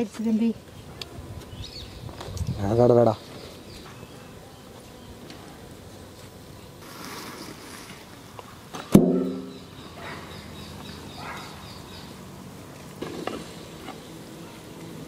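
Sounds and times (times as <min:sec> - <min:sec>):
birds chirping: 0:00.0 - 0:06.8, 0:08.1 - 0:12.7, 0:13.3 - 0:14.9.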